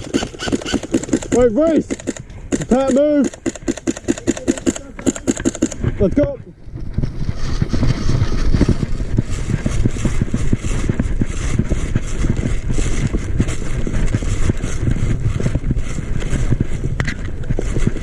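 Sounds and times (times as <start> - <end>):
wind buffeting on microphone: 0.0 - 18.0.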